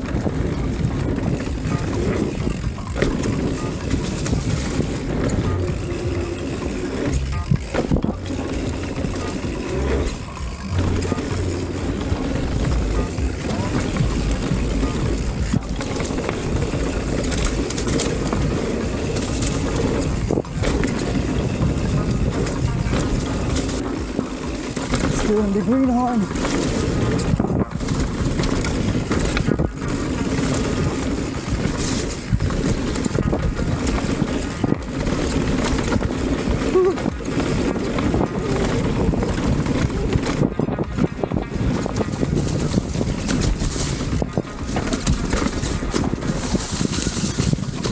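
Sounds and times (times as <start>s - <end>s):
bike rattling and clicking: 0.0s - 47.9s
knobby tyres rolling on dirt: 0.0s - 47.9s
low rumble: 0.0s - 47.9s
wind buffeting microphone: 0.0s - 47.9s.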